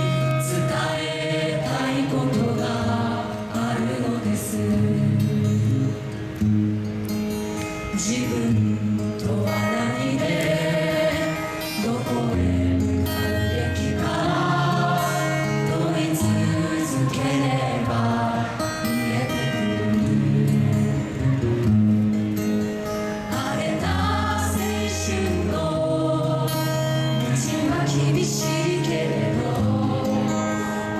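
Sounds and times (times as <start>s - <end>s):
voices singing together: 0.0s - 5.4s, 8.0s - 20.8s, 23.3s - 30.9s.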